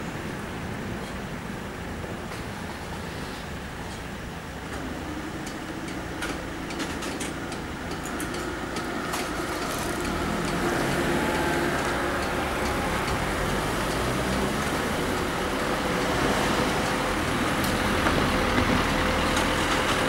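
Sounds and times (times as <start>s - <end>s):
car engines running: 0.0s - 20.0s
vehicles pulling away: 0.0s - 20.0s.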